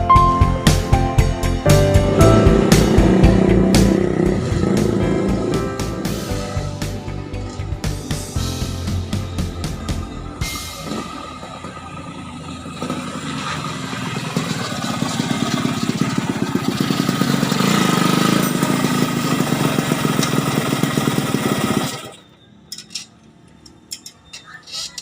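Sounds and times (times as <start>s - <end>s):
two-stroke engine running: 0.6s - 22.3s.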